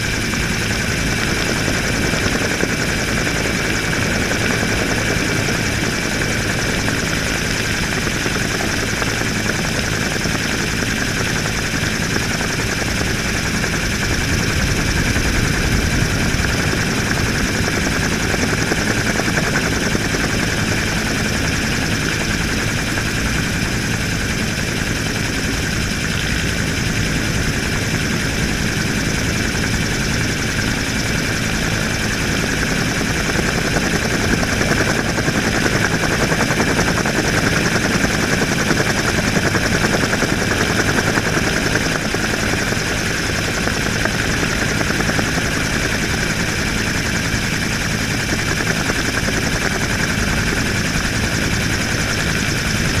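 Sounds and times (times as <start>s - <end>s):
helicopter rotor and engine noise: 0.0s - 53.0s.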